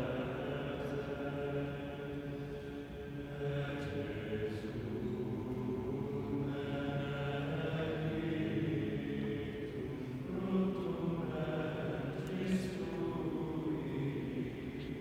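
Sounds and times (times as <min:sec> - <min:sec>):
men's choir chanting: 0:00.0 - 0:15.0.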